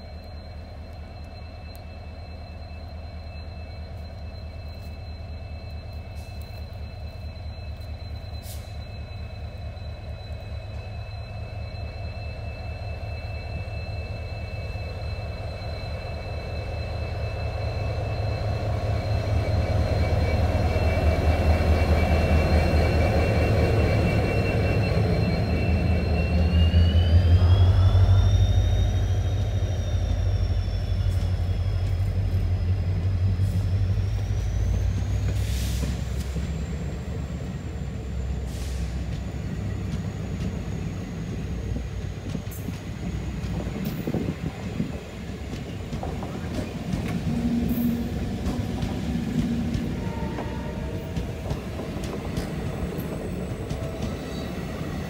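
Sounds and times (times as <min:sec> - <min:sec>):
coaches rumbling over rails: 0:00.0 - 0:55.0
diesel locomotive engine drone: 0:00.0 - 0:55.0.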